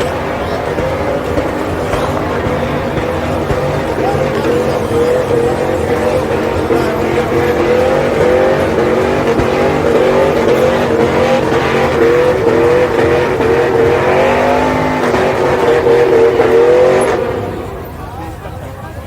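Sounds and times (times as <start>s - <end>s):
tires spinning and squealing: 0.0s - 19.0s
truck engine revving: 0.0s - 19.0s.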